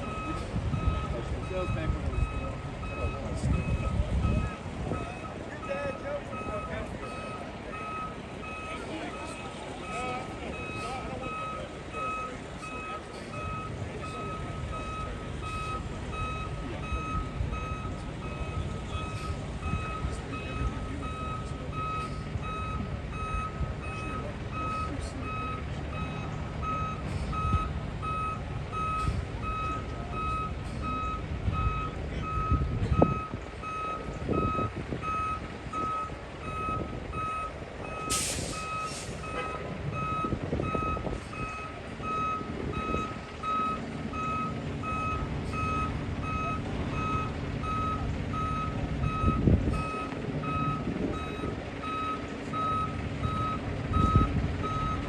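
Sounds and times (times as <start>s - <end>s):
diesel engine rumble: 0.0s - 55.0s
reverse alarm beeping: 0.0s - 55.0s.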